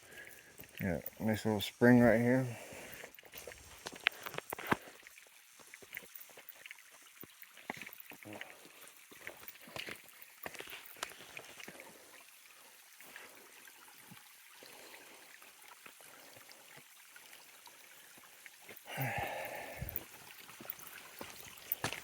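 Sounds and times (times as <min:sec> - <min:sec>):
spring water trickling: 0:00.0 - 0:22.0.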